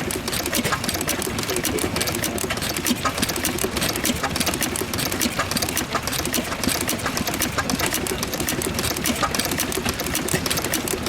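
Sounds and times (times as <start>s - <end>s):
stationary engine clattering: 0.0s - 11.0s.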